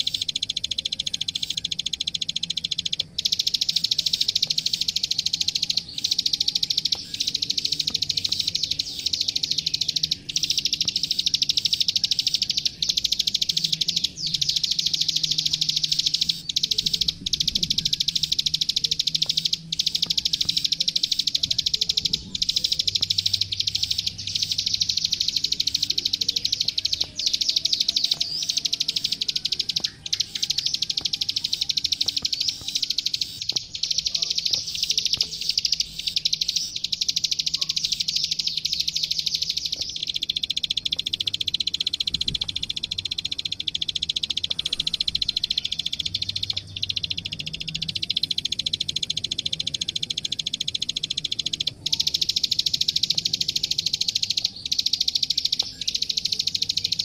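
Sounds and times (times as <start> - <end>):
bird singing high clicking notes: 0.0 - 57.0.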